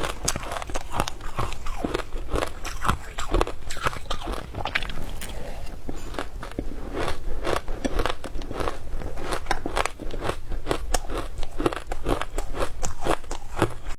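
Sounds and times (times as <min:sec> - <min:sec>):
person crunching frozen ice: 0:00.0 - 0:13.9.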